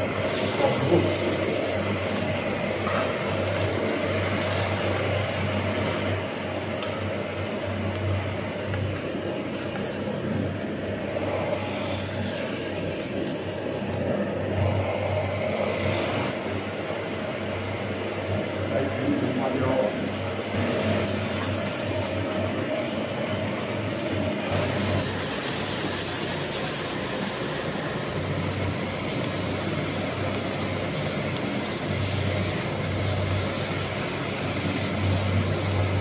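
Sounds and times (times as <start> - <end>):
gas burner running: 0.0 - 36.0
ribs sizzling in a wok: 0.0 - 36.0.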